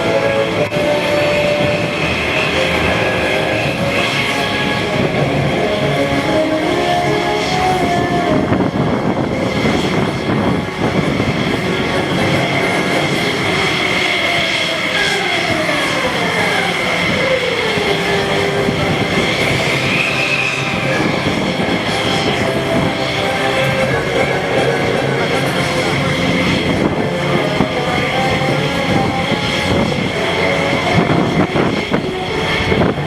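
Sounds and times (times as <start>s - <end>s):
jet engine whine and rumble: 0.0s - 33.0s
low tone sliding down in pitch: 0.0s - 33.0s.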